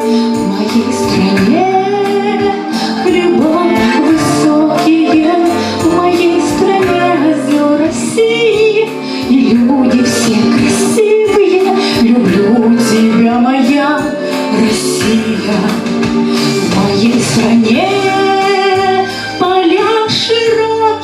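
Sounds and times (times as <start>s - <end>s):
instrumental backing track with bass: 0.0s - 21.0s
woman singing: 0.0s - 21.0s.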